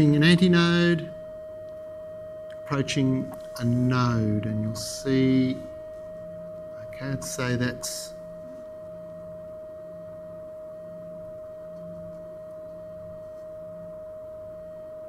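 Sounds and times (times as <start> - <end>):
steady sine tone: 0.0 - 15.0.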